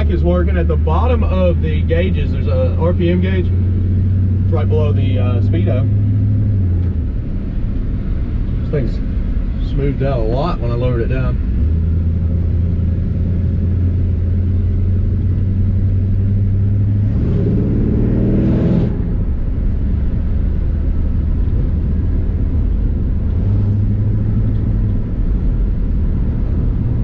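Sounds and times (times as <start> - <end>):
road rumble: 0.0 - 27.0
truck engine droning: 0.0 - 27.0.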